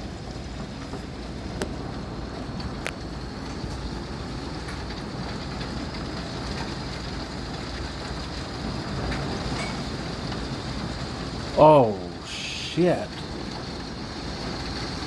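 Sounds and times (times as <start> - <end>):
heavy rain and hail: 0.0 - 15.0.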